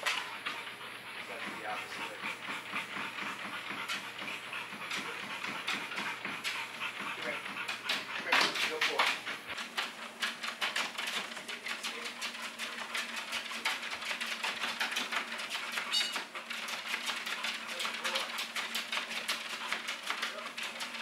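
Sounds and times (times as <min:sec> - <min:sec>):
dog paws tapping on treadmill: 0:00.0 - 0:21.0
treadmill motor hum: 0:00.0 - 0:21.0.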